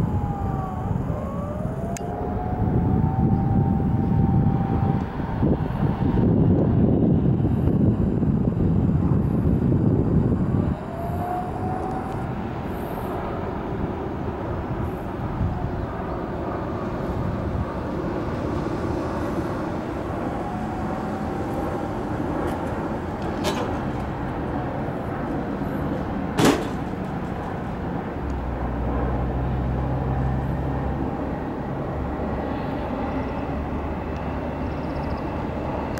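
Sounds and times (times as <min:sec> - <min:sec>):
deep engine hum: 0:00.0 - 0:35.9
traffic rumble: 0:00.0 - 0:35.9.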